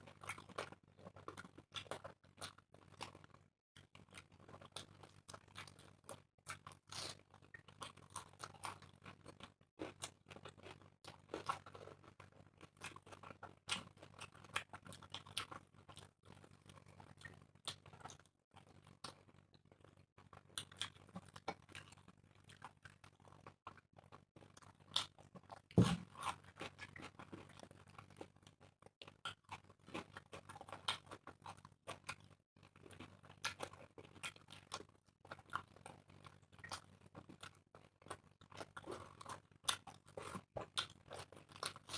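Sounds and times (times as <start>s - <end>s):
chewing and tearing fried bread: 0.0s - 41.9s.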